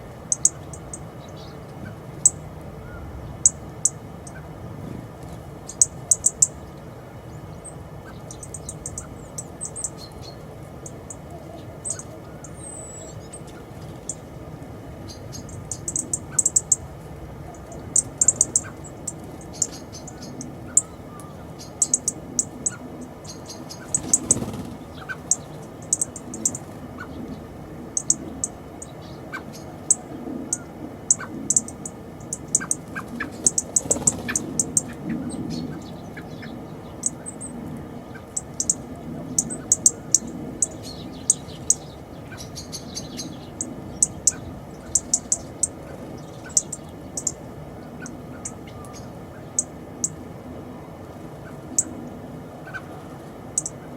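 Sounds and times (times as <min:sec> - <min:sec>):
songbirds chirping: 0:00.0 - 0:53.9
steady low background noise: 0:00.0 - 0:53.9.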